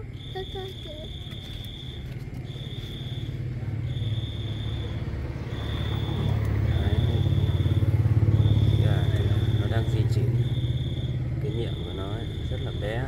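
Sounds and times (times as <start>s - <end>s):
insect trilling: 0.0s - 13.0s
vehicle engine pulsing hum: 0.0s - 13.0s.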